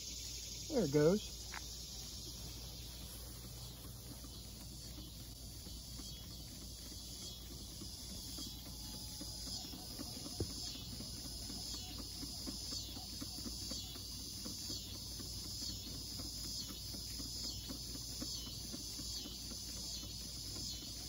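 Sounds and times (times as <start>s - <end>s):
toy steam engine ticking: 0.0s - 21.0s.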